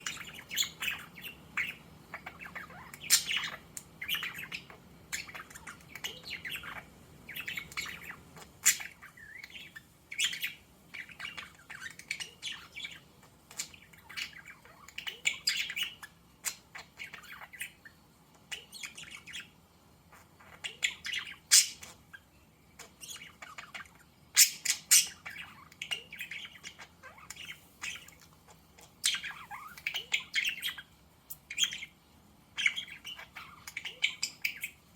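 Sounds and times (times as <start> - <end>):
budgerigars chirping and warbling: 0.0 - 34.9.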